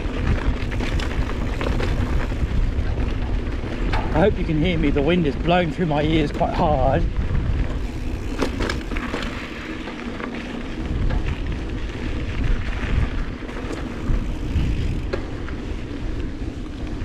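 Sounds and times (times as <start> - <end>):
bike knocks and rattles: 0.0 - 17.0
bike tyre noise: 0.0 - 17.0
wind buffeting microphone: 0.0 - 17.0.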